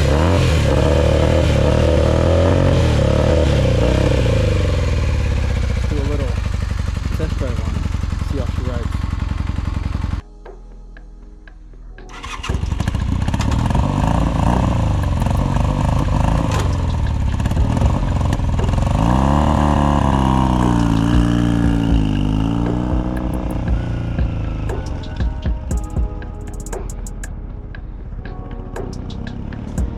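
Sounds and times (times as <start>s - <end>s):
motorcycle engine revving: 0.0s - 10.2s, 12.1s - 25.8s, 28.7s - 29.9s.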